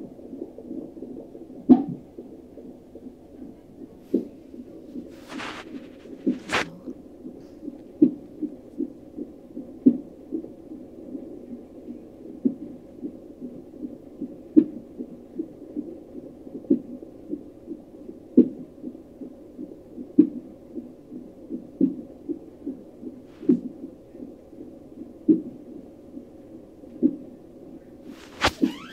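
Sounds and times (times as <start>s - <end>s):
fetal heartbeat on doppler monitor: 0.0s - 28.9s.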